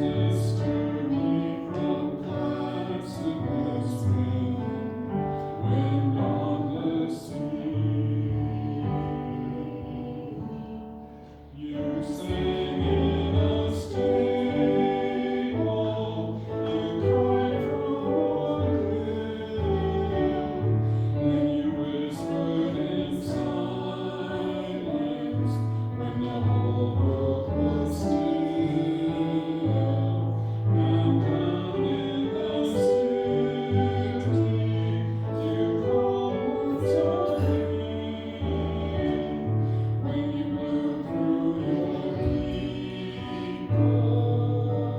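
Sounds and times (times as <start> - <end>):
voices singing a hymn: 0.0 - 44.9.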